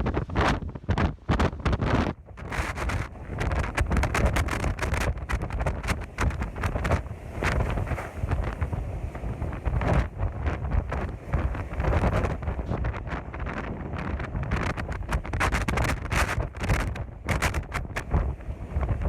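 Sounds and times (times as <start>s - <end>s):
sharp crackles and clicks: 0.0s - 8.6s, 9.8s - 19.0s
wind buffeting microphone: 0.0s - 19.0s.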